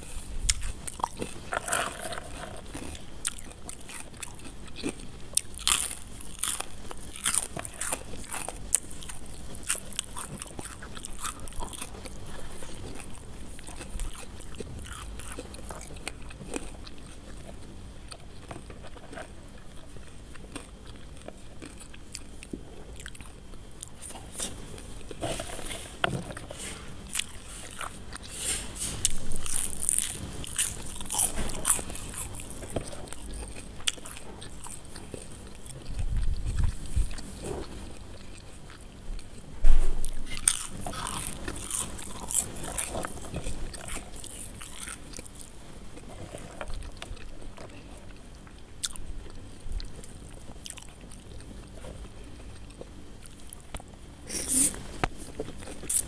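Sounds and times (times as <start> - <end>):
chewing crispy fries: 0.0 - 56.0.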